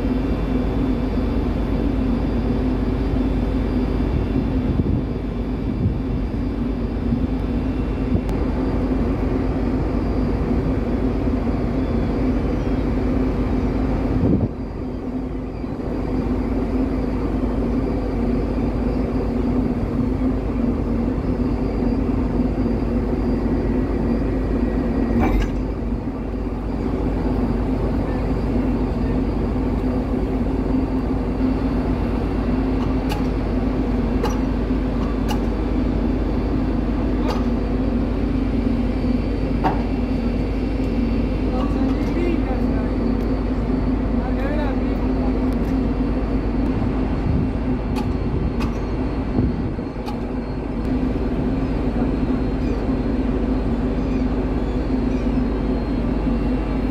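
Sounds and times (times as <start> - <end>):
low mechanical drone of machinery: 0.0 - 56.9.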